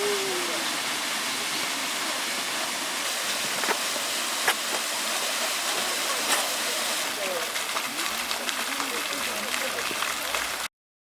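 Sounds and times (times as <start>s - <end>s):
flowing water rushing: 0.0s - 10.7s.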